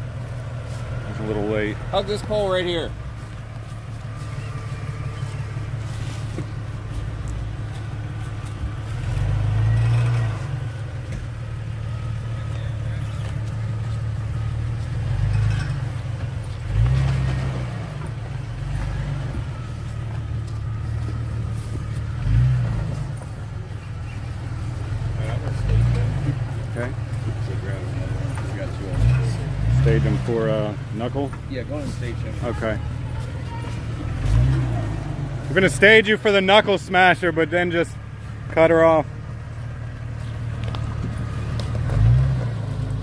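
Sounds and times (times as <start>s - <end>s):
off-road vehicle engine at low revs: 0.0s - 43.0s.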